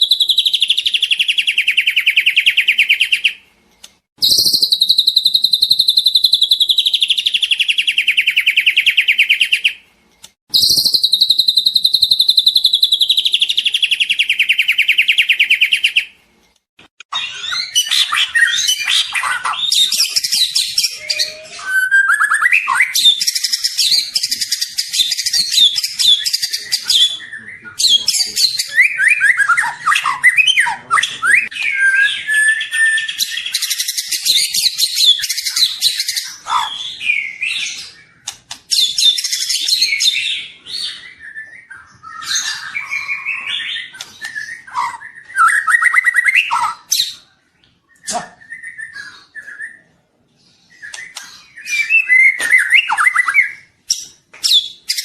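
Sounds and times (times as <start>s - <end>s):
songbird singing chirps and trills: 0.0s - 55.0s.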